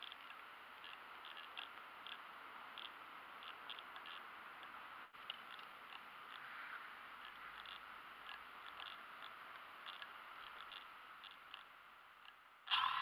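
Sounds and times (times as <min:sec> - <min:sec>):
faint high-pitched ticks: 0:00.0 - 0:12.9
faint steady hiss: 0:00.0 - 0:13.0.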